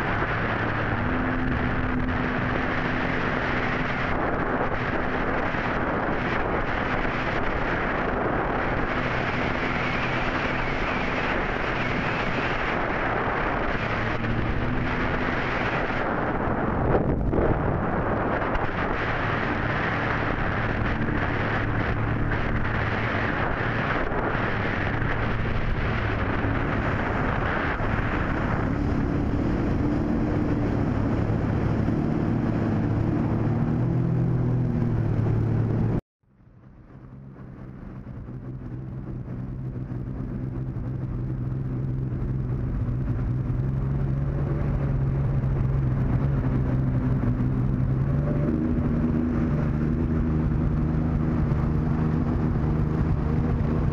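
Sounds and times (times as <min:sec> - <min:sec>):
motorboat engine running: 0:00.0 - 0:53.9
wind: 0:00.0 - 0:53.9.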